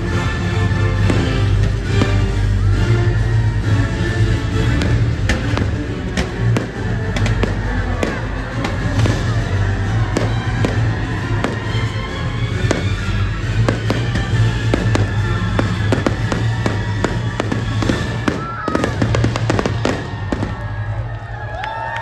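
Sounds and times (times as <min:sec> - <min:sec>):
loud show music: 0:00.0 - 0:22.0
fireworks popping and banging: 0:01.0 - 0:02.4, 0:04.7 - 0:21.2.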